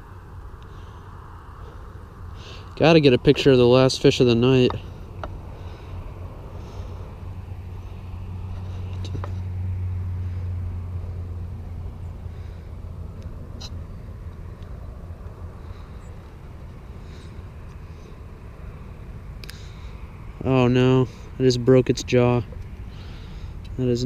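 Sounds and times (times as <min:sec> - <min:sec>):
passing vehicle engine hum: 0:00.0 - 0:24.0.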